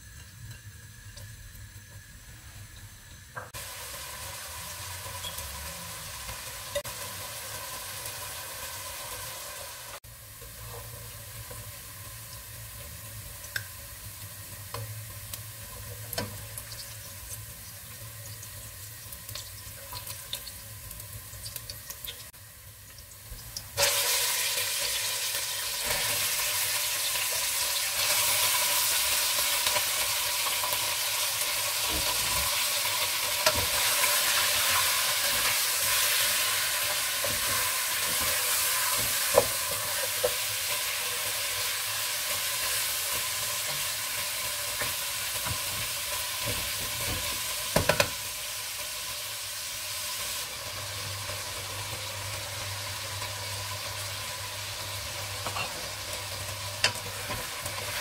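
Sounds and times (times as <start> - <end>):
chicken frying loudly: 0.0 - 58.0
onions sizzling in hot oil: 0.0 - 58.0.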